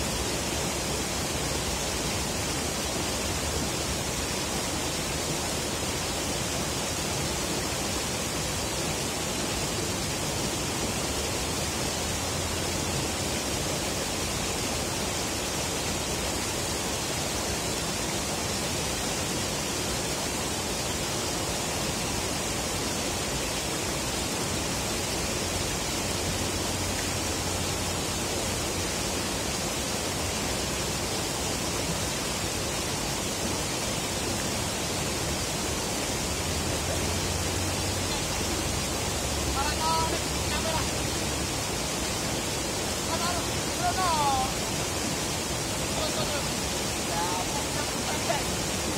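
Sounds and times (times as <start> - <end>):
river water rushing: 0.0 - 48.9.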